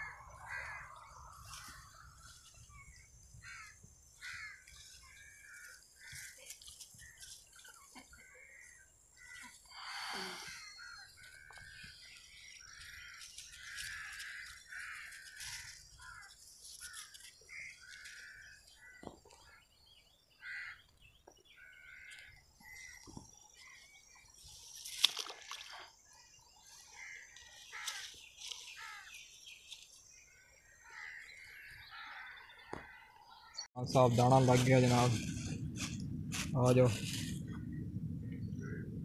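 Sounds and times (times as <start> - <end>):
birds calling harshly: 0.0 - 35.5.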